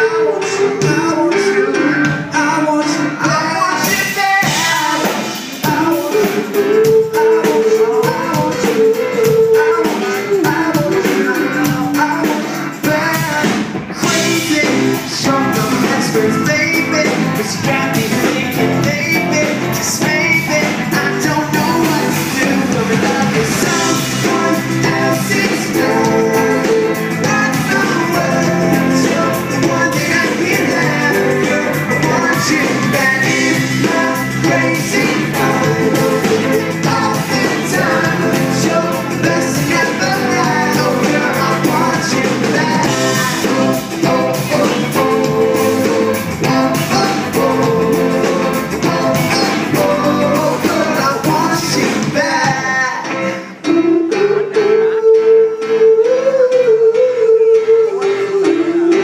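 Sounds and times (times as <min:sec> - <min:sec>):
live pop-rock band playing: 0:00.0 - 0:59.0
person singing lead: 0:00.0 - 0:59.0.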